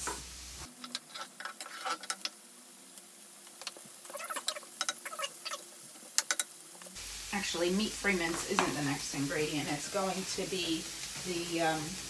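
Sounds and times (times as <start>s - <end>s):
onion frying in oil: 0.0s - 12.0s.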